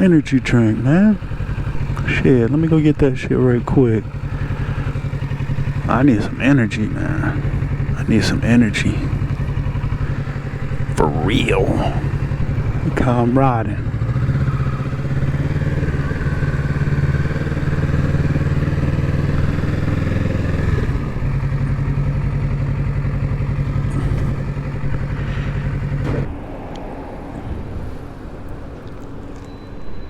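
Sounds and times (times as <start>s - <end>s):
motorcycle engine running: 0.0s - 26.4s.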